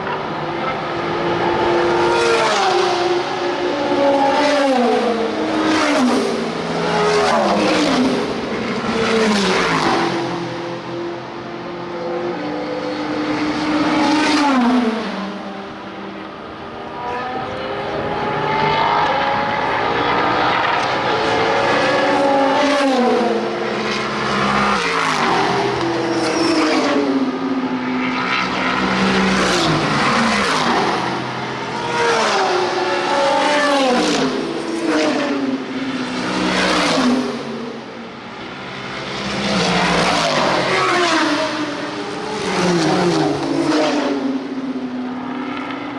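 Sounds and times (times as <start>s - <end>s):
race cars passing: 0.0s - 45.9s.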